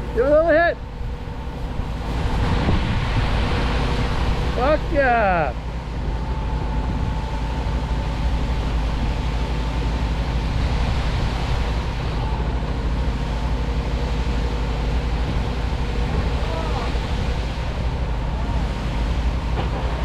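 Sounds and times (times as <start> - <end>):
faint steady whine: 0.0 - 20.0
heavy diesel engine running: 0.0 - 20.0.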